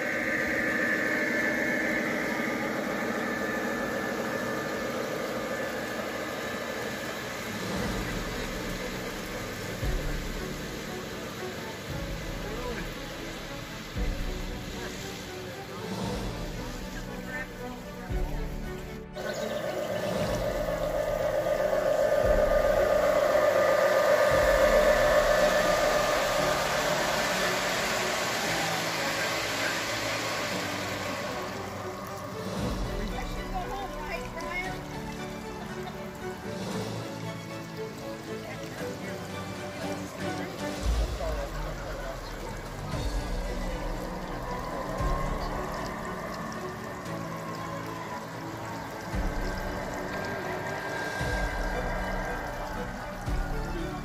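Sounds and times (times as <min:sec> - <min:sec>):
train cars rumbling on track: 0:00.0 - 0:38.4, 0:40.0 - 0:54.0
model locomotives humming: 0:00.0 - 0:54.0.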